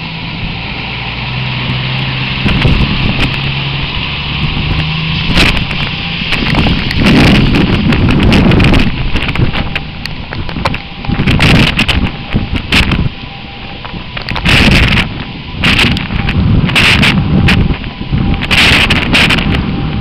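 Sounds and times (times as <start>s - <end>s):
steady rushing noise: 0.0s - 20.0s
storm wind buffeting microphone: 0.0s - 20.0s.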